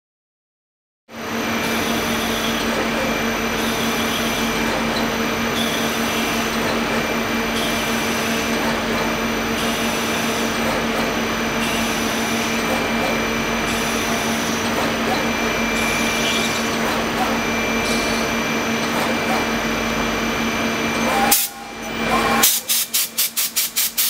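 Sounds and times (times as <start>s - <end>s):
machine tool humming: 1.1s - 24.0s
drill cutting plate: 1.2s - 24.0s.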